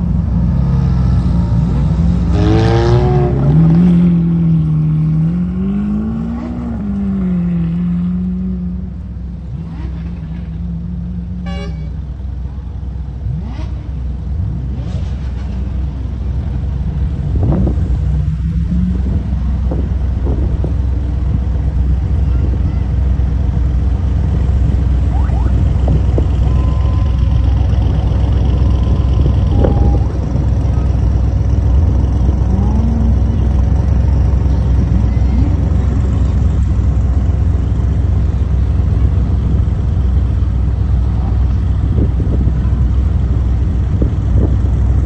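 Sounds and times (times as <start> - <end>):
sports car engines revving: 0.0 - 45.0.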